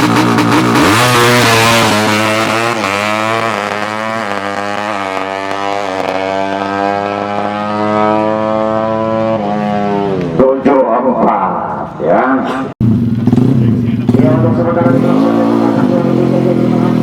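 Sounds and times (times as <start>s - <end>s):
motorcycle engine at high revs: 0.0s - 10.4s, 12.8s - 17.0s.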